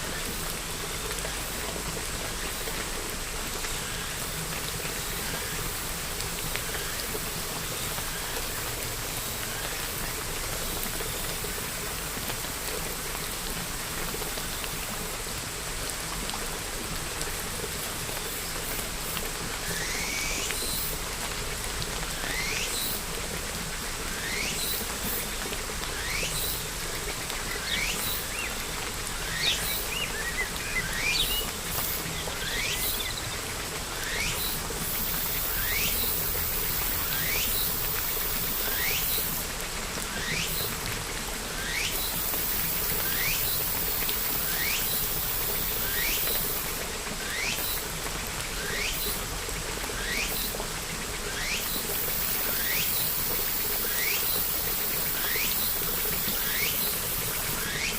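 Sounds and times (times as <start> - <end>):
rain hiss: 0.0 - 57.9.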